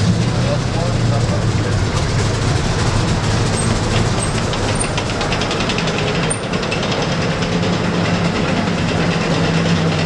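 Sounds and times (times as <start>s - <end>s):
engine droning: 0.0s - 10.0s
steel tracks clattering: 0.0s - 10.0s.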